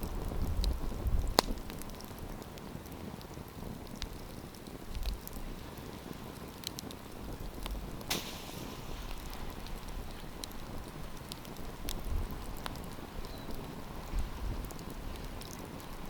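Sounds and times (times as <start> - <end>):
campfire pops and snaps: 0.0 - 16.0
low rumble of fire: 0.0 - 16.0
steady hiss of fire: 0.0 - 16.0.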